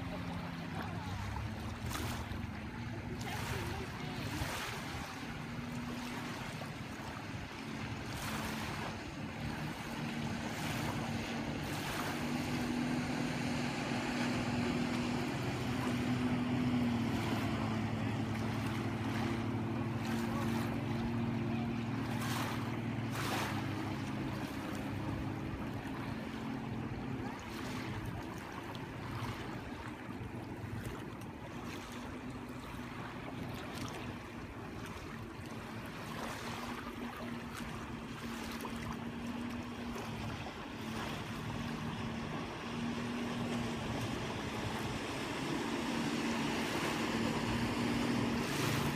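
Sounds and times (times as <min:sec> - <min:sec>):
jet ski engine droning: 0:00.0 - 0:48.9
small waves lapping at shore: 0:00.0 - 0:48.9.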